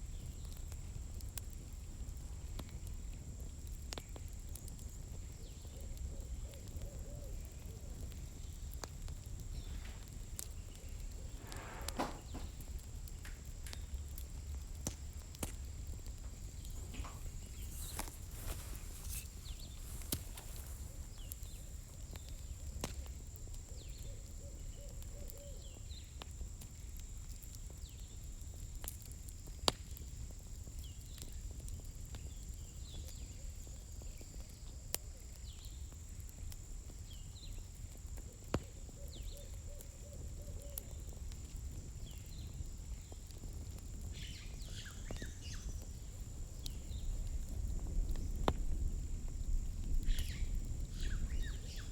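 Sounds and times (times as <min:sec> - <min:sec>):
campfire snapping and popping: 0:00.0 - 0:51.9
low steady fire rumble: 0:00.0 - 0:51.9.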